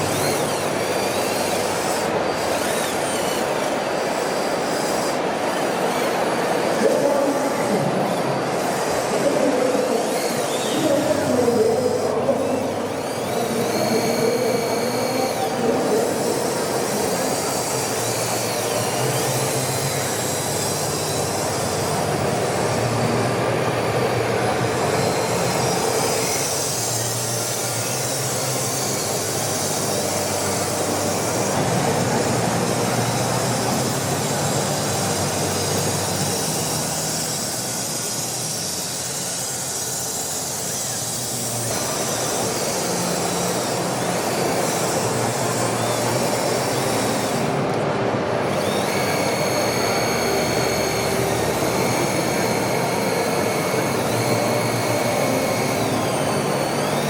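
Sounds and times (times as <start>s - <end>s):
small electric motors whirring: 0.0s - 57.0s.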